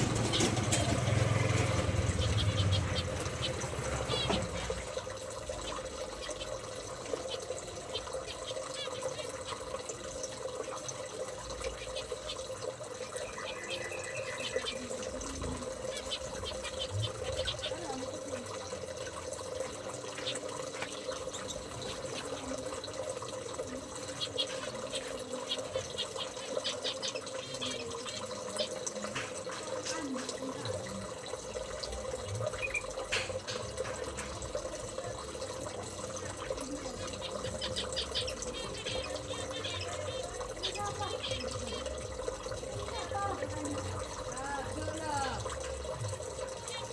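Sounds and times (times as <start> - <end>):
running water: 0.0 - 46.9.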